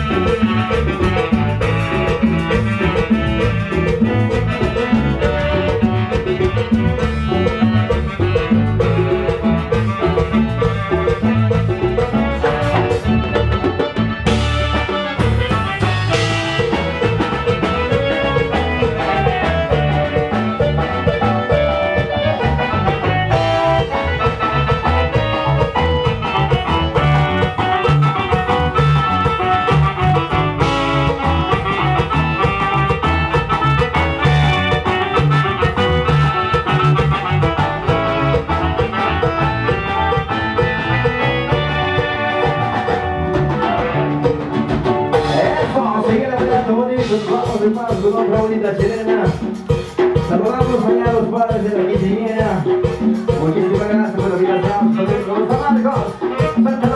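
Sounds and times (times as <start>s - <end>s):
drum kit: 0.0s - 56.9s
heavy bass line: 0.0s - 56.9s
live band playing latin music: 0.0s - 56.9s.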